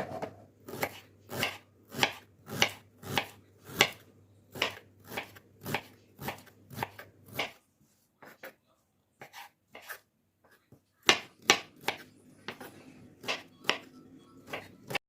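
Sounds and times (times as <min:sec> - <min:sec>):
knife chopping food: 0:00.0 - 0:07.6, 0:09.2 - 0:15.0.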